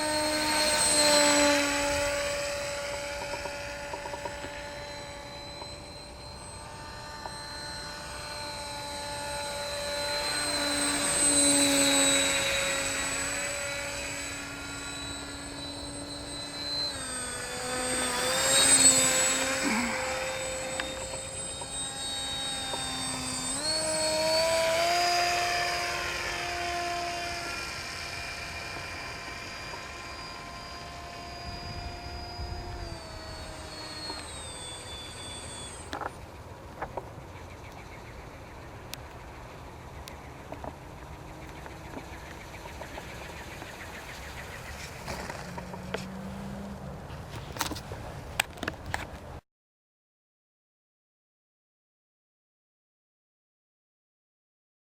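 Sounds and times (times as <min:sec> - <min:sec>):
model aircraft motor whine: 0:00.0 - 0:49.4.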